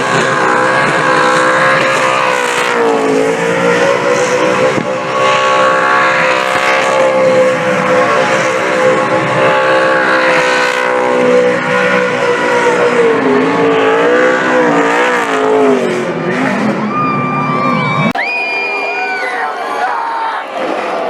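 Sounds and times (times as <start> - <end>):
race car engine revving: 0.0 - 18.2.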